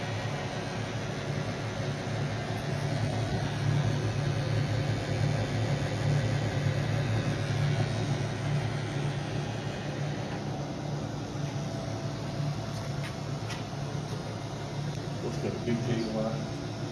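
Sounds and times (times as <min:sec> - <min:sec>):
milling machine motor humming: 0:00.0 - 0:16.9.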